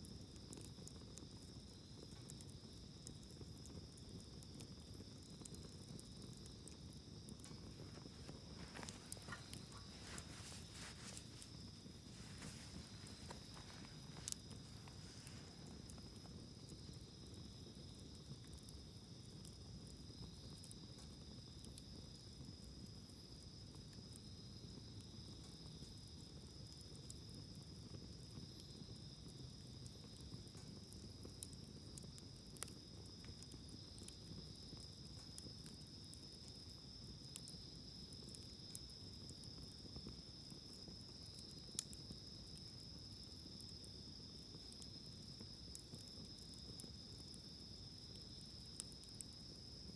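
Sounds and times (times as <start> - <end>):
campfire pop: 0.0 - 23.2, 24.8 - 49.9
campfire crackling: 0.0 - 49.9
insects trilling: 0.1 - 49.9.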